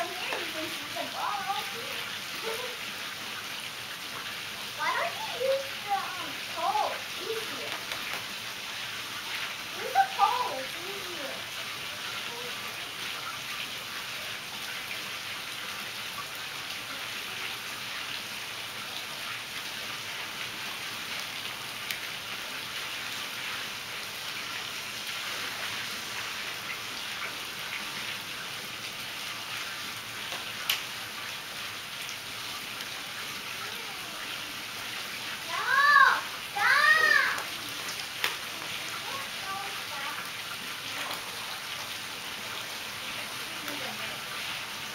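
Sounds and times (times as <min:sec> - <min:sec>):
water splashing into pool: 0:00.0 - 0:44.9.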